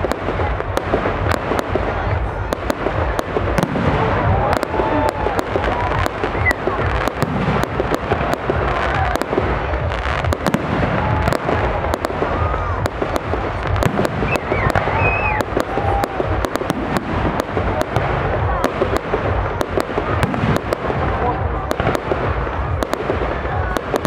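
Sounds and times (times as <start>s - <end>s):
firework bangs and crackles: 0.0s - 24.0s.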